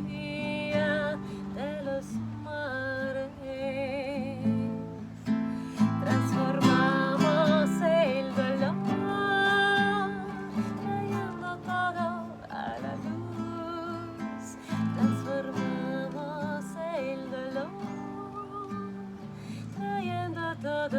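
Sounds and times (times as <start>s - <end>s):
woman singing: 0.0s - 20.9s.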